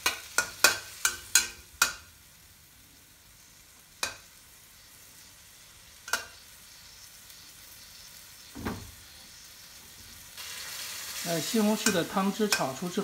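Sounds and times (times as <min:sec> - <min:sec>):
tomatoes sizzling in a wok: 0:00.0 - 0:13.0.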